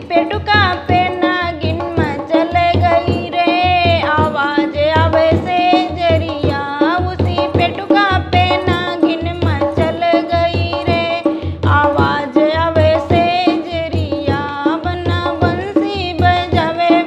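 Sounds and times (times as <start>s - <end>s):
hand drum beat: 0.0s - 17.0s
woman singing folk song: 0.0s - 17.0s.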